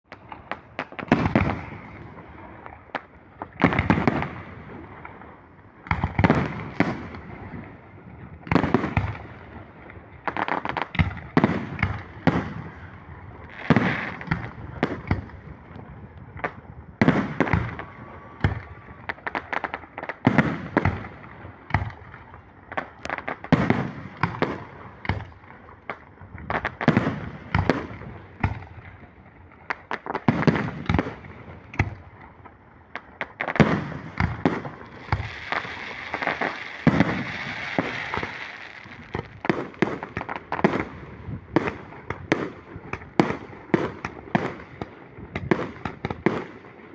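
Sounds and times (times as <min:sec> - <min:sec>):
fireworks banging: 0:00.1 - 0:46.9
fireworks crackling and rumbling: 0:00.1 - 0:46.9.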